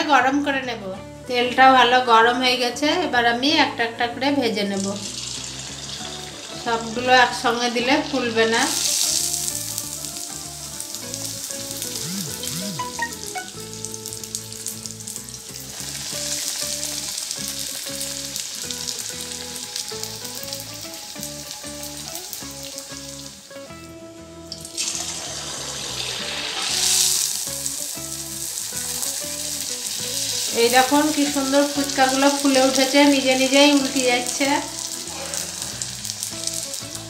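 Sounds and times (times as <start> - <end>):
dough deep-frying in bubbling oil: 4.5 - 23.7, 24.5 - 37.0.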